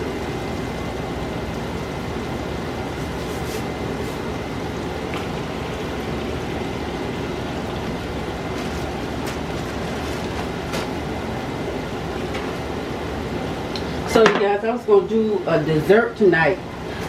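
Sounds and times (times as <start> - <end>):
chicken sizzling in hot oil: 0.1 - 14.0.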